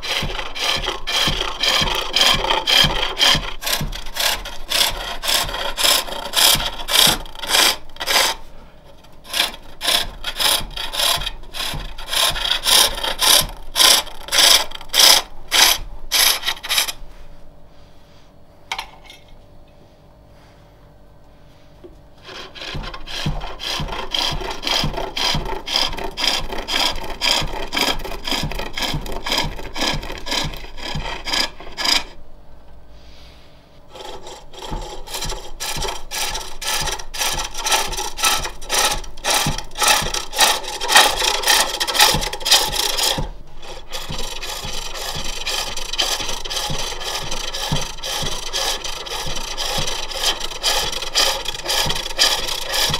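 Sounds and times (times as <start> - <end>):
lathe tool scraping wood: 0.0 - 17.0, 22.2 - 32.2, 33.1 - 52.9.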